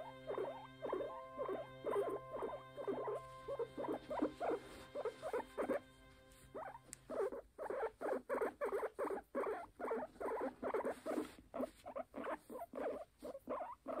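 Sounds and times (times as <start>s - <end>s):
guinea pig calling: 0.0s - 14.0s.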